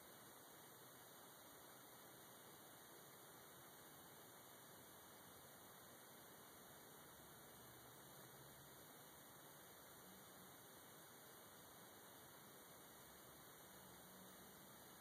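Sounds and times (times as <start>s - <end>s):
faint recording hiss and hum: 0.0s - 15.0s.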